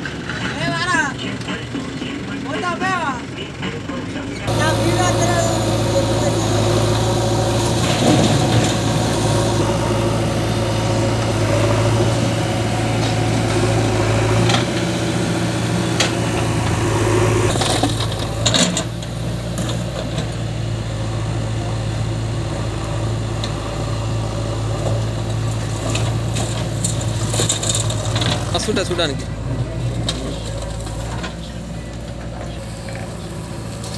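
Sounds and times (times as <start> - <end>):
diesel engine running under load: 0.0 - 33.9.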